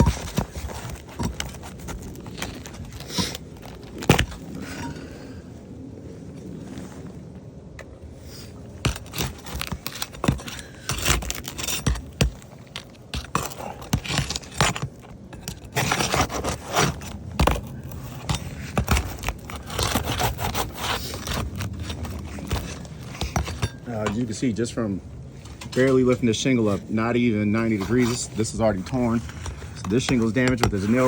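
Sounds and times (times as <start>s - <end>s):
flat bar scraping shingles: 0.0s - 5.2s, 8.3s - 31.0s.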